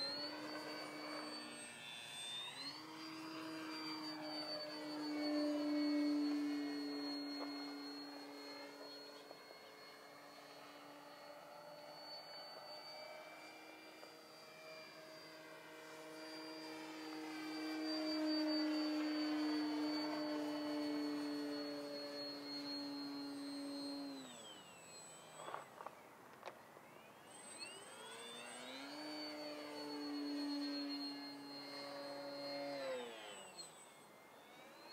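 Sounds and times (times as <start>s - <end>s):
model plane motor whine: 0.0s - 34.9s.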